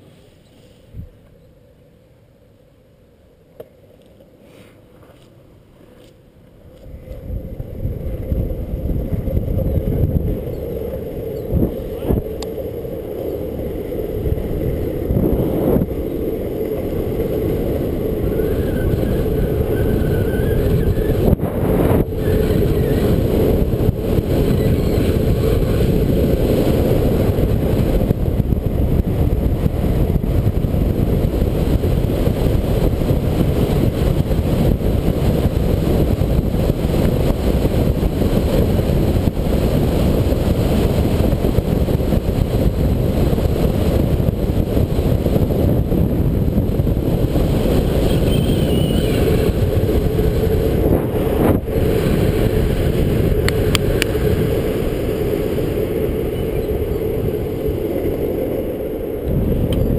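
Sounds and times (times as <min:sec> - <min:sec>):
longboard wheels rolling on asphalt: 0:00.0 - 0:59.9
wind rushing over microphone: 0:00.8 - 0:01.2, 0:06.6 - 0:59.9.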